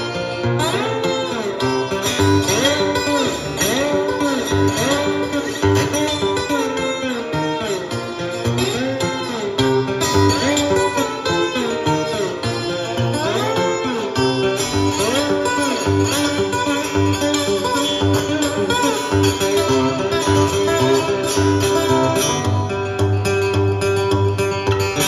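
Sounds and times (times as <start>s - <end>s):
fingerstyle slide acoustic guitar: 0.0s - 25.0s.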